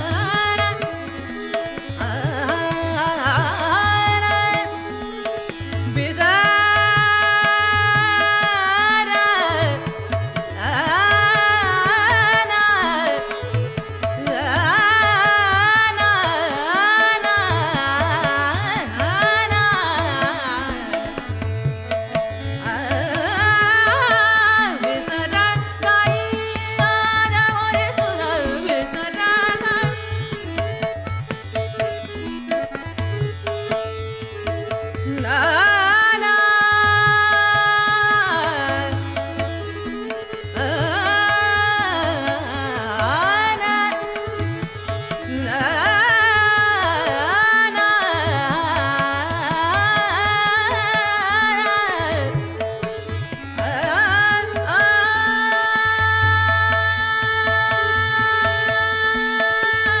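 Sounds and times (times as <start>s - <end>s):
woman singing classical vocal: 0.0s - 5.0s, 5.8s - 21.2s, 22.6s - 30.2s, 35.0s - 39.5s, 40.1s - 53.0s, 53.6s - 60.0s
tabla rhythm: 0.0s - 60.0s.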